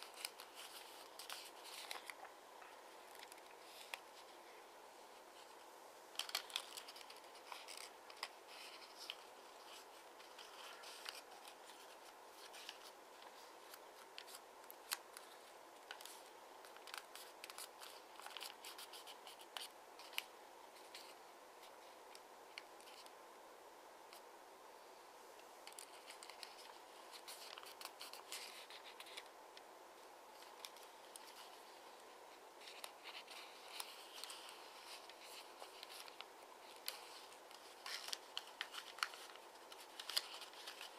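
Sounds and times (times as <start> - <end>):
paper crinkling while folded: 0.0 - 4.5, 5.1 - 23.2, 25.6 - 29.4, 30.3 - 40.9.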